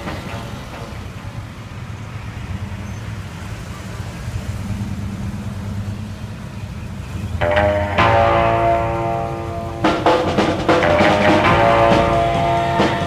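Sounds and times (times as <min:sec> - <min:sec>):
car engines driving past: 0:00.0 - 0:13.0.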